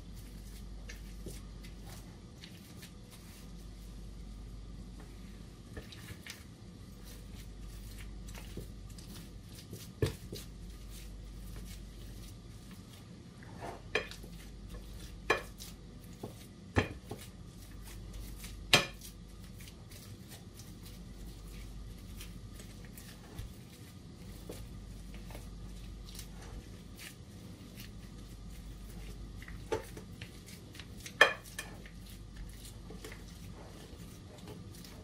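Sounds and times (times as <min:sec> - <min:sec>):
potato masher mashing potatoes: 0:00.0 - 0:04.3, 0:05.6 - 0:35.0.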